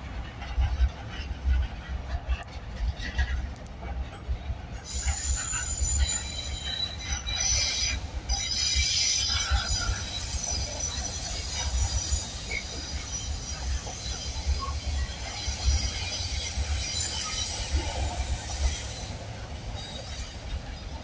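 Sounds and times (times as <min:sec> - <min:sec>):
freight train rumble: 0:00.0 - 0:21.0
train wheels squealing on rails: 0:00.2 - 0:21.0.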